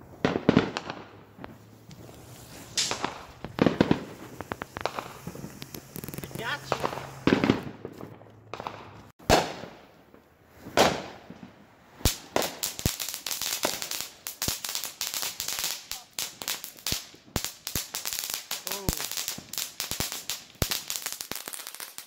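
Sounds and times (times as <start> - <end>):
firework pops and cracks: 0.0 - 22.0
loud firework bangs: 0.0 - 22.0.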